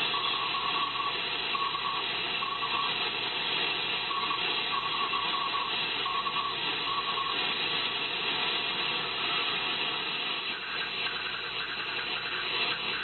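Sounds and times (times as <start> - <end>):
raspy morse code signal: 0.0 - 9.6, 10.4 - 13.0
radio receiver hiss: 0.0 - 13.0.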